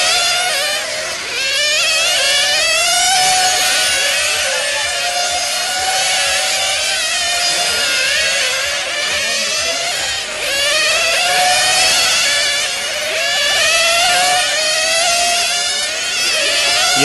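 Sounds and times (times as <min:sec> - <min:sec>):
rc car engines whining: 0:00.0 - 0:17.0.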